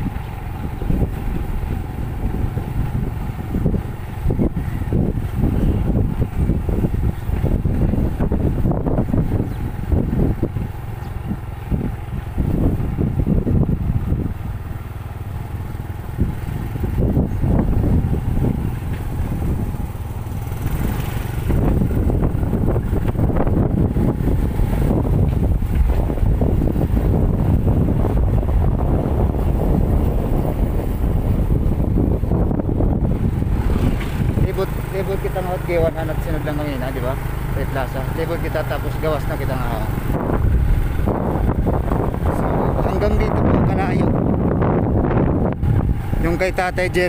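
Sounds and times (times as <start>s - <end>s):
motorcycle running: 0.0s - 47.0s
wind buffeting microphone: 0.0s - 47.0s.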